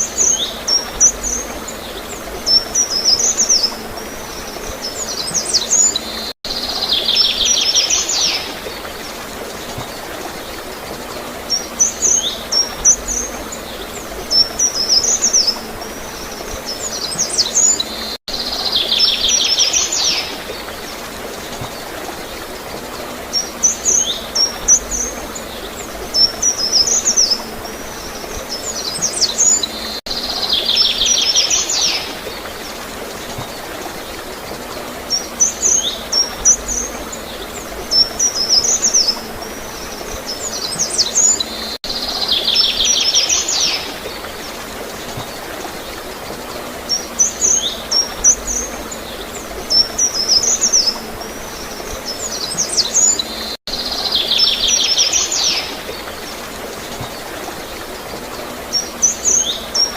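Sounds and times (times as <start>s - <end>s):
gurgling water: 0.0s - 59.9s
songbirds chirping: 0.0s - 59.9s.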